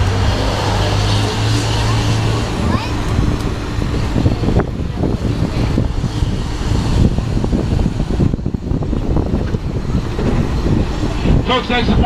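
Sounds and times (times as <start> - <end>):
tram rumbling: 0.0 - 12.0
wind buffeting microphone: 0.0 - 12.0.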